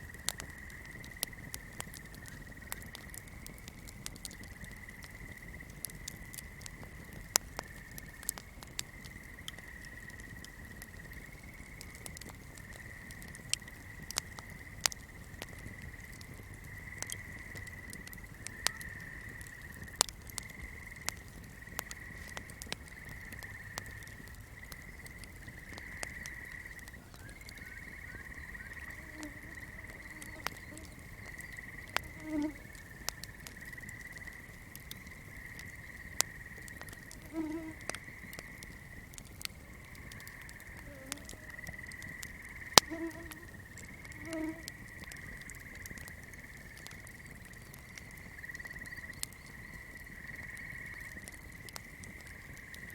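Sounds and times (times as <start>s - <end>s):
flame crackling: 0.0s - 52.9s
frogs and insects trilling: 0.0s - 52.9s
low frog croaks: 0.0s - 52.9s.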